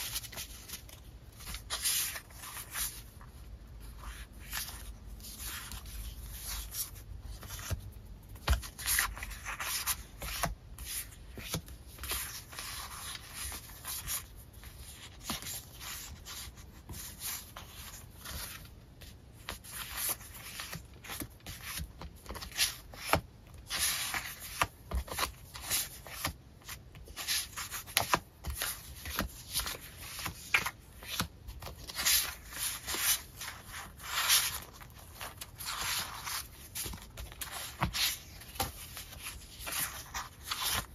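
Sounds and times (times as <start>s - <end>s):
sticker sheets rustling and sliding: 0.0s - 40.9s.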